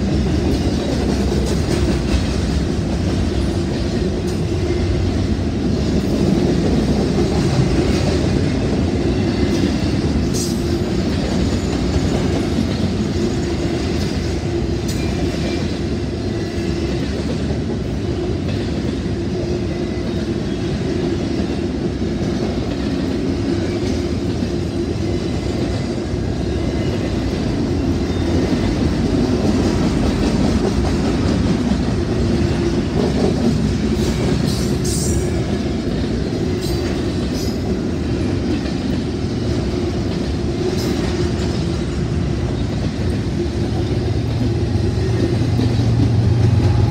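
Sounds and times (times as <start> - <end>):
train wheels rumbling on rails: 0.0 - 46.9.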